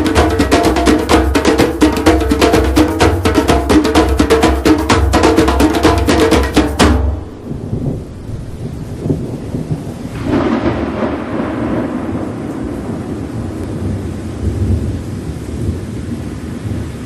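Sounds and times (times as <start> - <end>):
rain: 0.0 - 17.0
thunderclap rolling: 0.0 - 17.0.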